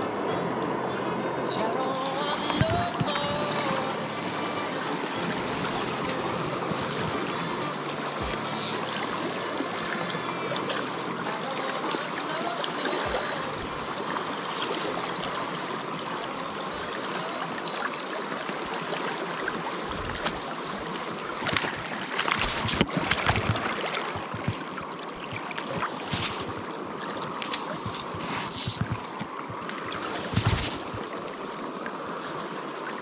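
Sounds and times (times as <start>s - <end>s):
stream flowing: 0.0s - 33.0s.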